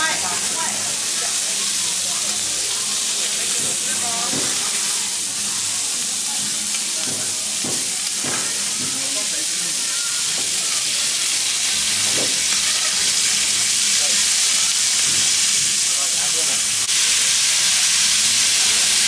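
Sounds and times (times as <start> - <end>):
food sizzling: 0.0 - 19.0.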